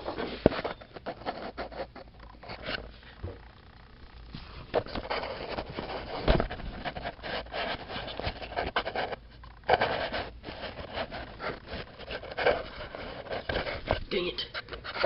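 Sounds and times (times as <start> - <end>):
rustling and scraping of objects: 0.0 - 3.4, 4.2 - 15.0.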